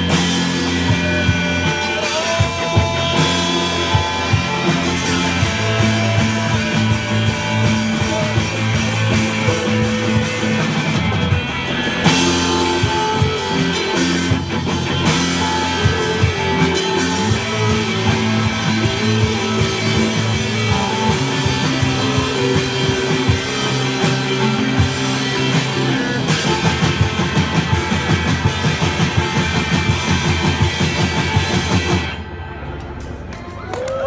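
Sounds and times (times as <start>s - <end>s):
rock band playing: 0.0s - 33.4s.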